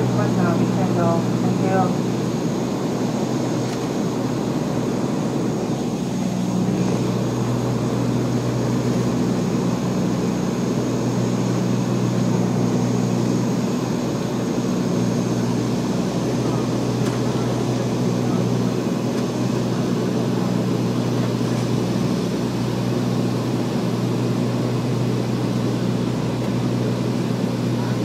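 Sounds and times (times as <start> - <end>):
propeller aircraft engine hum: 0.0 - 28.0.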